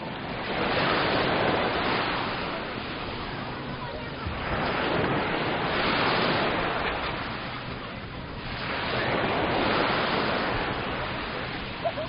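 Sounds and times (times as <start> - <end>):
surf washing onto beach: 0.0 - 12.0.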